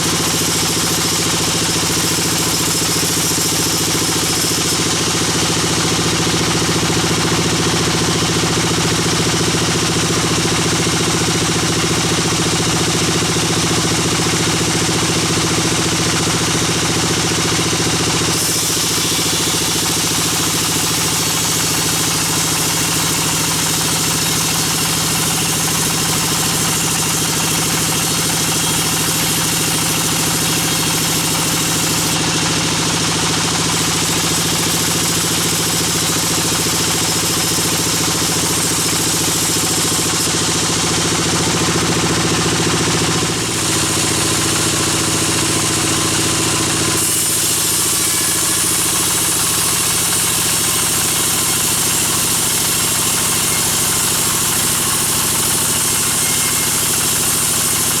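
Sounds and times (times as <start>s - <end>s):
bandsaw machinery droning: 0.0s - 58.0s.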